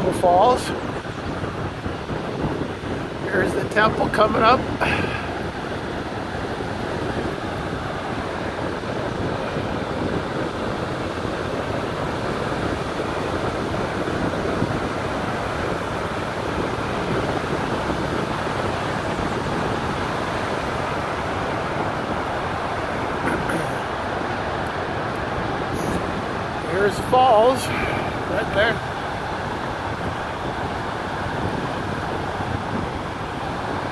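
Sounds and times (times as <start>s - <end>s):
water rushing over falls: 0.0s - 33.9s
wind on microphone: 0.0s - 33.9s.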